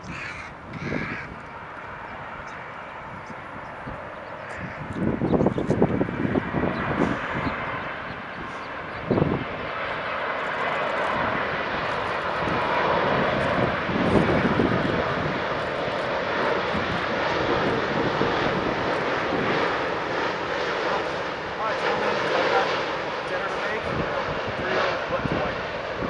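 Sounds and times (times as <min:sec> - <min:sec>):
jet engine rumble and hiss: 0:00.0 - 0:26.0.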